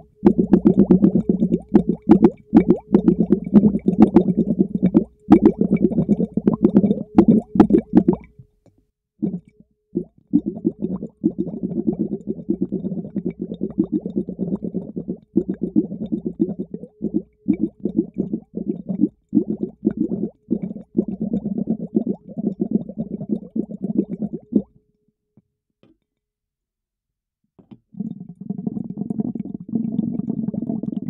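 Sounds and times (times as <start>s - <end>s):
underwater bubbling and gurgling: 0.0s - 8.4s, 9.2s - 24.7s, 27.9s - 31.0s.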